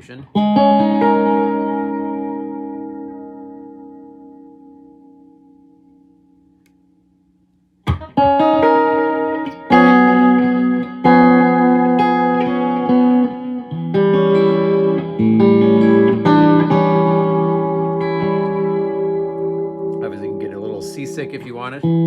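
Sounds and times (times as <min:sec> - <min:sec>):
electric guitar with delay: 0:00.4 - 0:06.9, 0:07.8 - 0:22.0.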